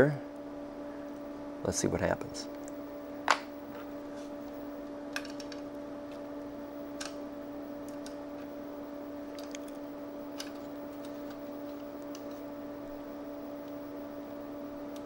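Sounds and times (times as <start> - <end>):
floppy drive humming: 0.0 - 15.0.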